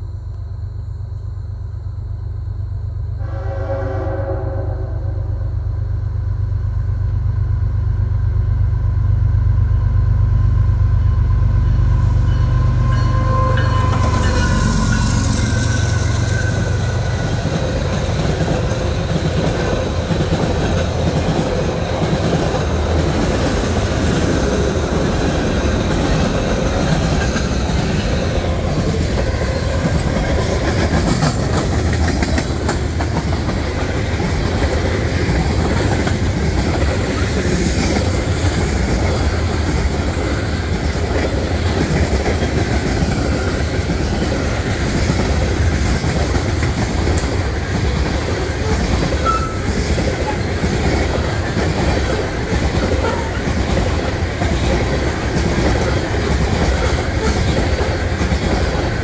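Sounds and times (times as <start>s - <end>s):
deep low rumble of train: 0.0s - 59.0s
freight train wheels clattering: 11.0s - 59.0s.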